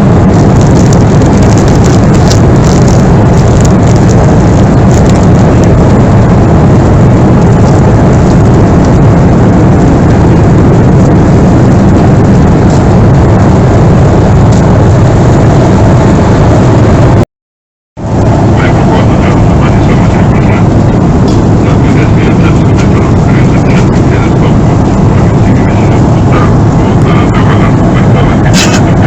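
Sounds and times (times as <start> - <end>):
jet engines in cabin: 0.0 - 17.2, 18.0 - 29.0.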